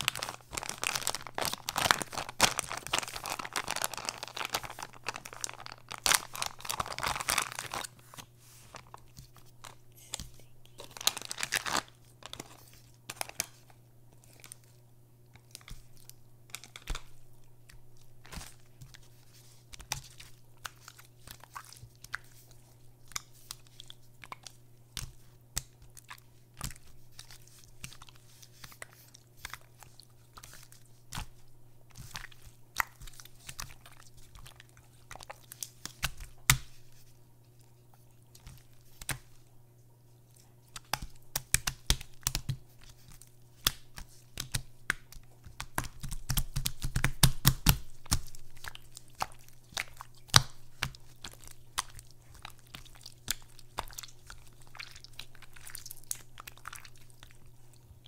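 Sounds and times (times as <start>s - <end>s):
slime squelching and crackling: 0.0s - 13.6s, 15.3s - 39.4s, 40.2s - 58.0s
faint low hum: 0.0s - 58.0s.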